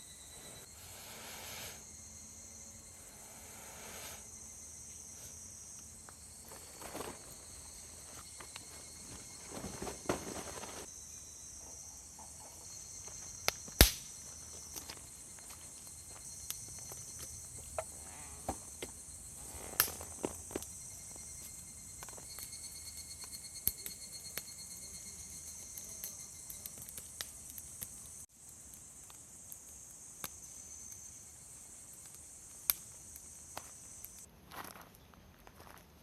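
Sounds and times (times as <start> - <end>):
insects chirring: 0.0 - 35.8.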